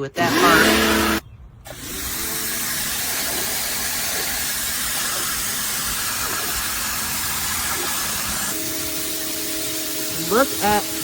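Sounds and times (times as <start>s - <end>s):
pressure washer spraying concrete: 0.2s - 11.0s.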